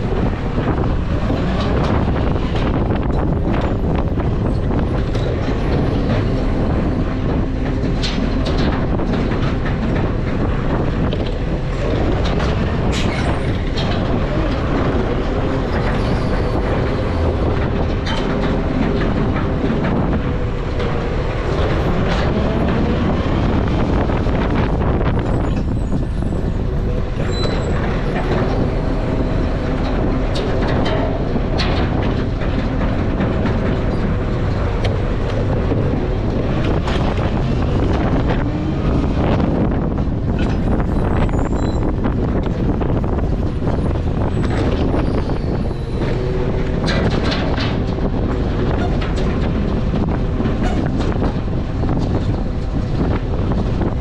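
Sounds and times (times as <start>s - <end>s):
clanks and rattles: 0.0s - 54.0s
heavy truck rumbling: 0.0s - 54.0s.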